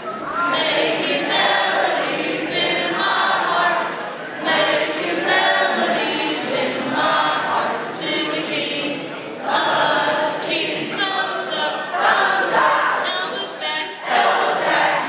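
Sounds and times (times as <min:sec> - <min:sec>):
young voices singing in unison: 0:00.0 - 0:15.0.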